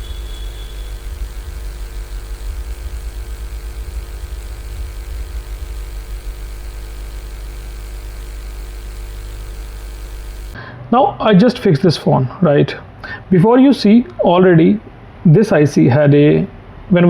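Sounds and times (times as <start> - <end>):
low electrical hum with whir: 0.0 - 17.0.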